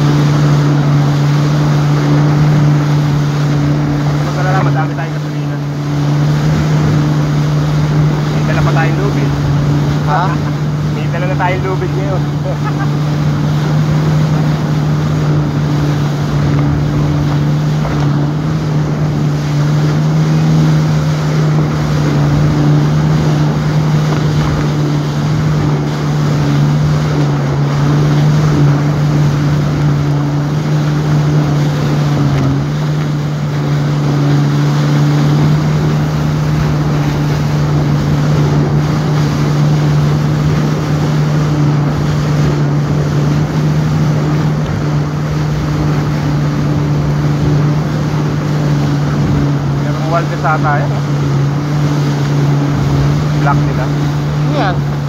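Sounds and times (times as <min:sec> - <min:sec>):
jet ski engine drone: 0:00.0 - 0:55.0
water spray rushing: 0:00.0 - 0:55.0.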